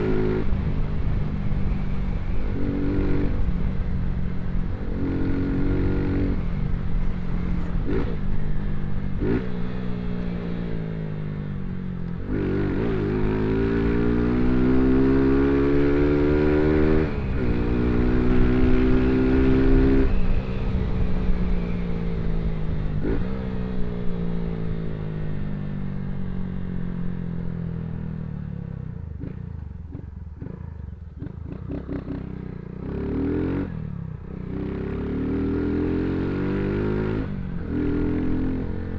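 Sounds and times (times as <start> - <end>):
motorcycle accelerating: 0.0 - 38.9.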